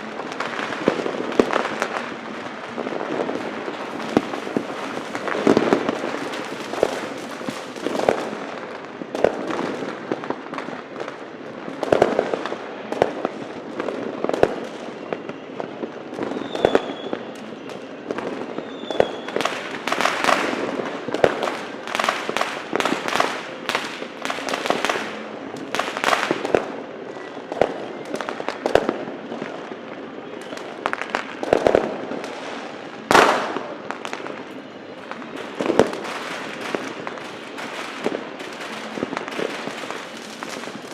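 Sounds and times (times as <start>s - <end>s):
firecrackers crackling: 0.0s - 40.9s
fireworks bangs: 0.0s - 40.9s.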